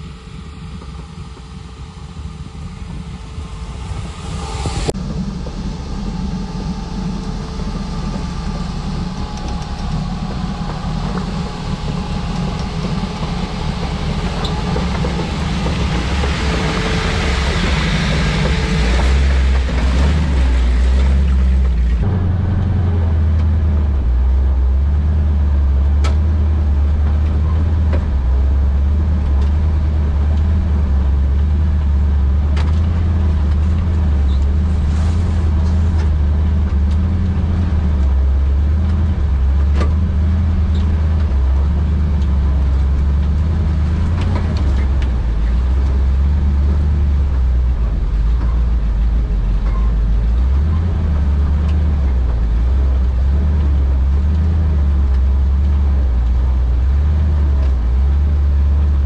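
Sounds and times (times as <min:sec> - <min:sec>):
engine running under load: 0:00.0 - 0:59.0.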